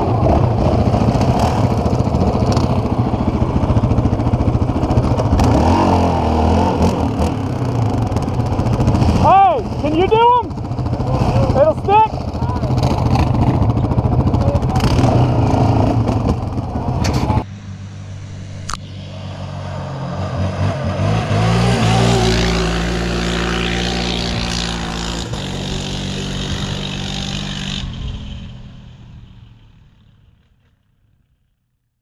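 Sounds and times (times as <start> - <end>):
quad engine running hard: 0.0 - 28.6
off-road vehicle speeding past: 0.0 - 30.7.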